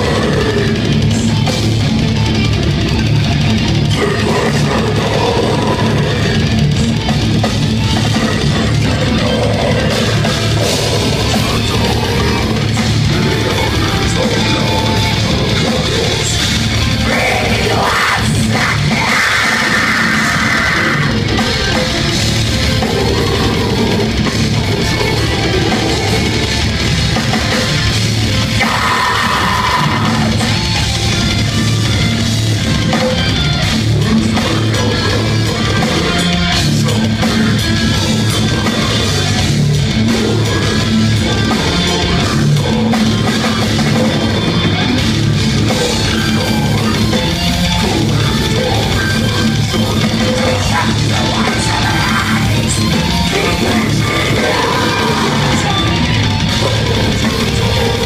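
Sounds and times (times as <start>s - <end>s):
death metal band playing live: 0.0s - 58.0s.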